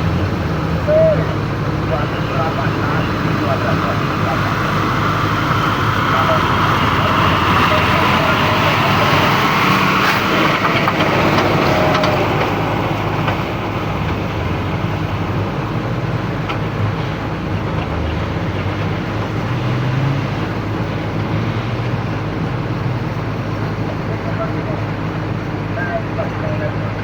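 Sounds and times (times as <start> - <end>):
diesel truck engine under load: 0.0 - 27.0
steady rushing noise: 0.0 - 27.0.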